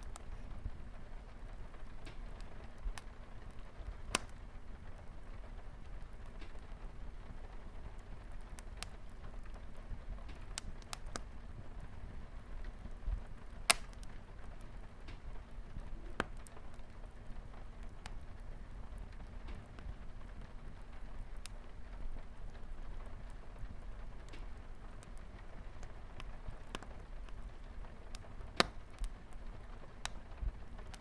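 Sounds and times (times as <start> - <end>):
light rain on a window: 0.0 - 31.0
sharp pops from fire: 0.0 - 31.0
wood fire crackling: 0.0 - 31.0.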